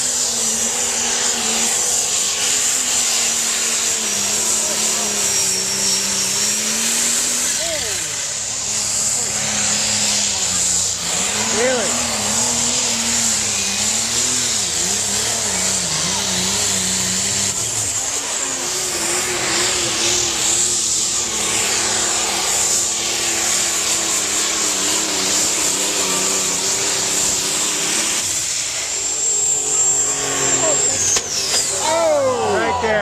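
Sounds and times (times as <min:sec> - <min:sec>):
tractor engine under full load: 0:00.0 - 0:33.0.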